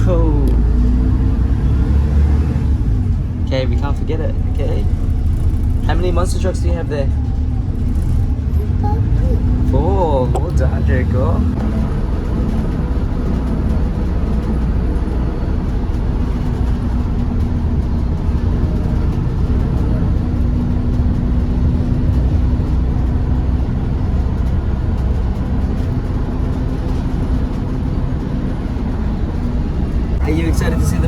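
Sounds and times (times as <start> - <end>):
bus engine and road rumble: 0.0 - 31.0
constant hum: 0.0 - 31.0.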